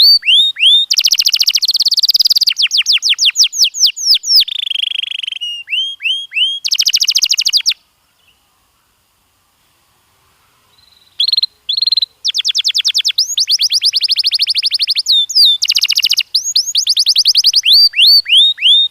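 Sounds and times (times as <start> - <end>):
canary singing: 0.0 - 8.4, 10.7 - 18.9.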